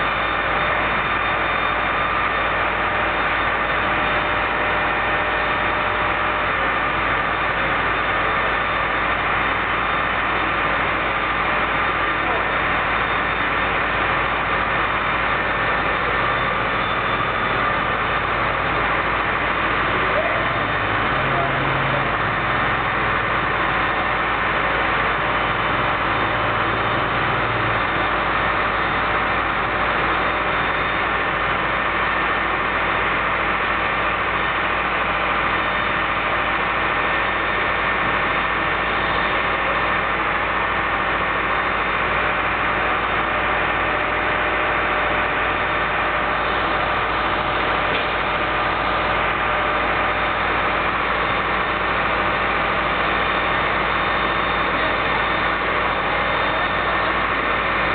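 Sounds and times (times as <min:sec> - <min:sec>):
fire engine idling: 0:00.0 - 0:57.9.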